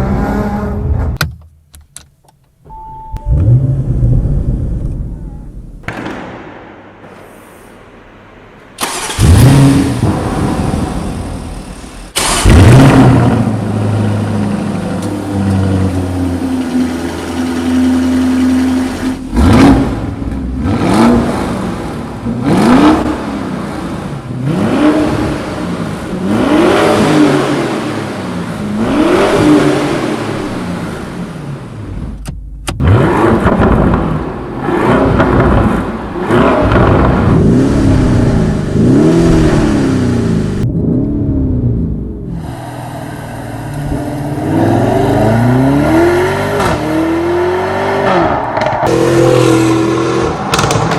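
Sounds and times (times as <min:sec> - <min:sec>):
suv engine revving: 0:08.8 - 0:32.1, 0:32.7 - 0:50.9.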